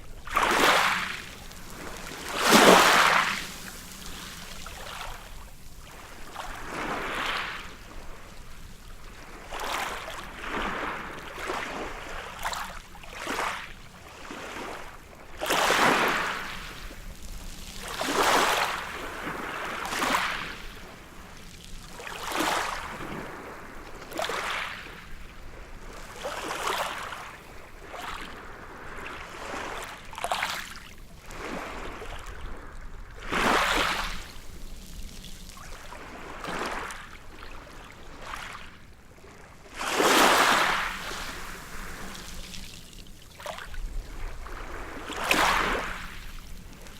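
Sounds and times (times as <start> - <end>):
small waves breaking on beach: 0.0 - 46.9.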